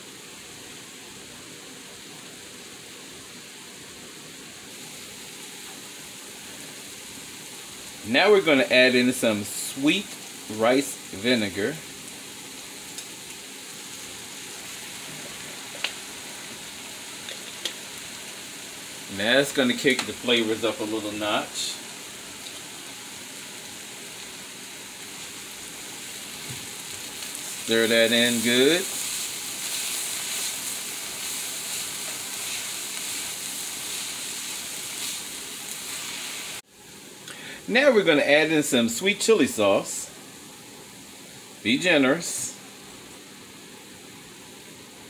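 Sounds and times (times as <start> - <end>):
vegetables sizzling in a pan: 0.0 - 45.0.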